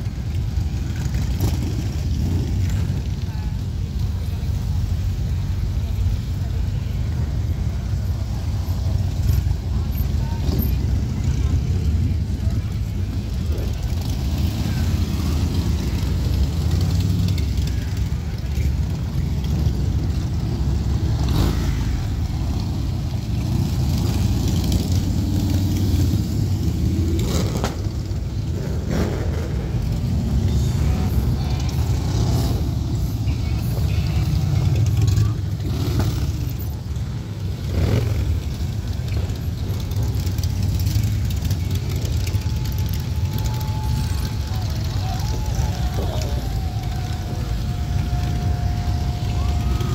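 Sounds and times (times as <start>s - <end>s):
motorcycles riding past: 0.0s - 49.9s.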